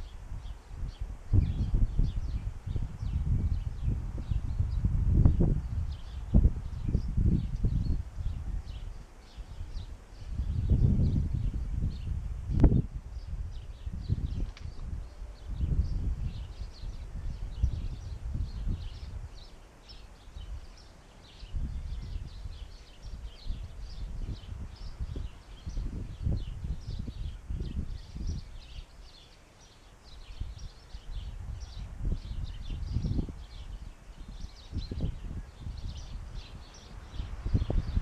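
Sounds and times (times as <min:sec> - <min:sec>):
small birds chirping: 0:00.0 - 0:38.0
wind buffeting microphone: 0:00.0 - 0:38.0.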